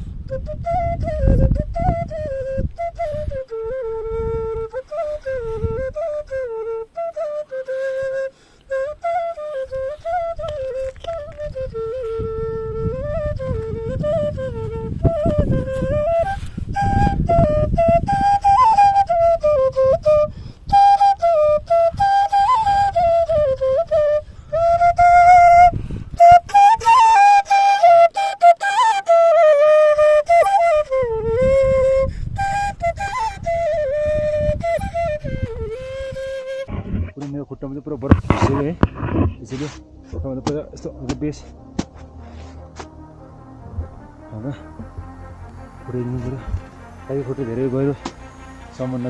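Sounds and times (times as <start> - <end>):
wind rumble on microphone: 0.0 - 28.1, 29.5 - 49.0
bamboo flute folk melody: 0.0 - 49.0.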